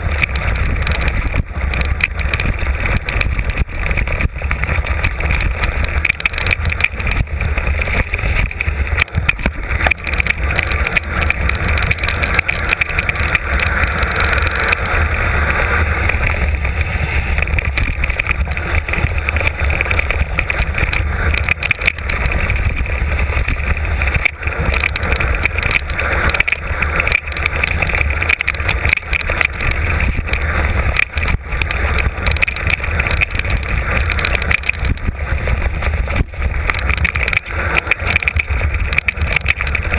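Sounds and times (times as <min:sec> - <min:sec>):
bike rattling and knocking: 0:00.0 - 0:39.9
tyres on loose ground: 0:00.0 - 0:39.9
wind rumble on microphone: 0:00.0 - 0:39.9.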